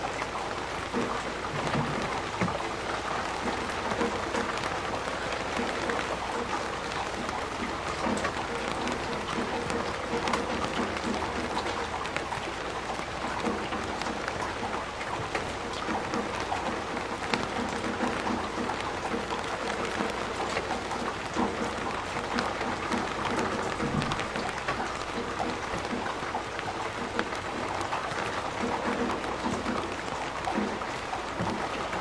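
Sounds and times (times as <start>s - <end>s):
heavy rain on plastic roof: 0.0s - 32.0s.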